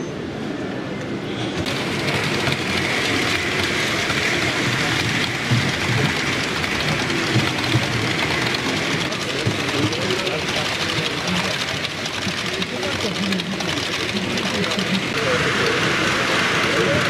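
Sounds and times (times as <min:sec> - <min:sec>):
murmur of crowd: 0:00.0 - 0:17.0
model train rolling on track: 0:01.2 - 0:17.0.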